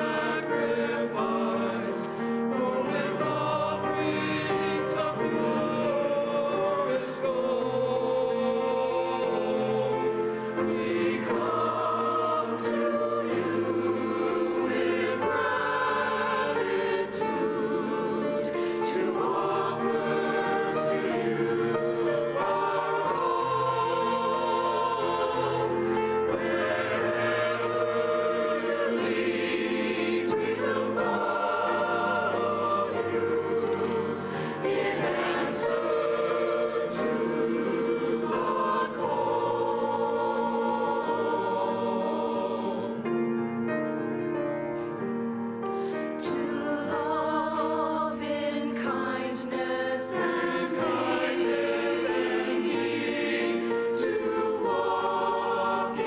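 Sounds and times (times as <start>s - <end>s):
church choir singing: 0.0s - 56.0s.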